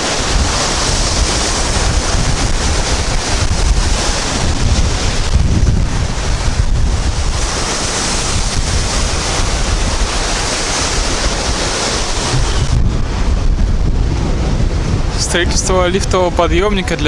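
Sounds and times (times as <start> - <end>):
surf breaking against seawall: 0.0 - 17.0
wind rumbling on microphone: 0.0 - 17.0.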